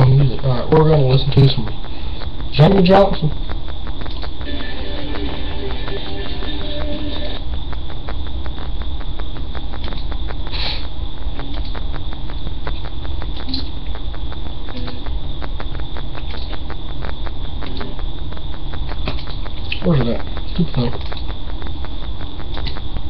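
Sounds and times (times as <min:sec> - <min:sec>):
faint crackling clicks: 0:00.0 - 0:04.5, 0:07.4 - 0:23.0
electrical hum and hiss: 0:00.0 - 0:23.0.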